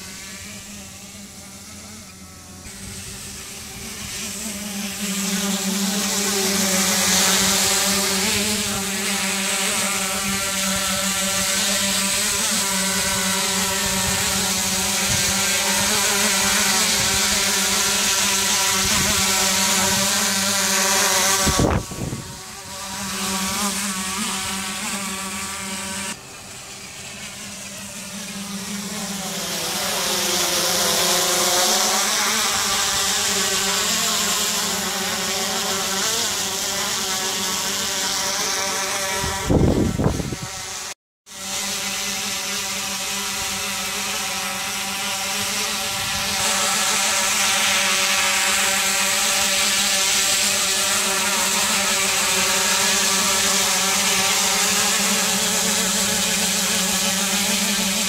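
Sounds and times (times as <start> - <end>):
drone rotors buzzing: 0.0 - 58.0.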